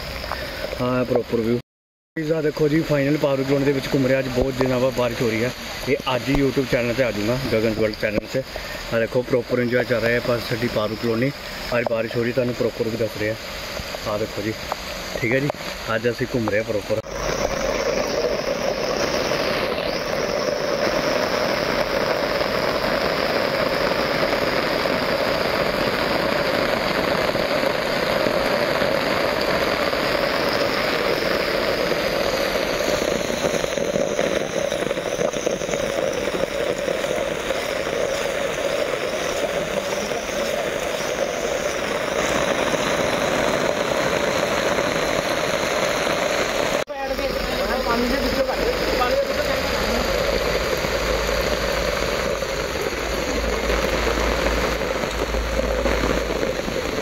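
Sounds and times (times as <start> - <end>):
heavy rain on umbrella: 2.6 - 57.0.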